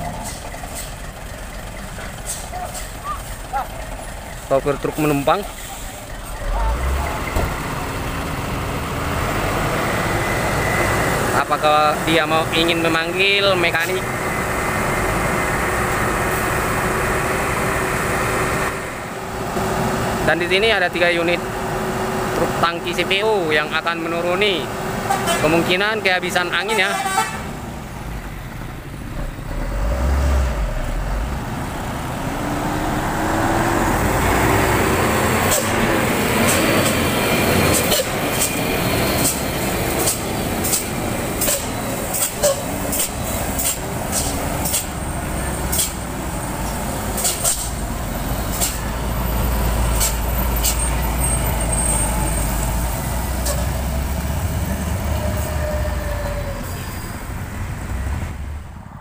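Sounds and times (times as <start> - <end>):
diesel truck engines passing: 0.0 - 59.0.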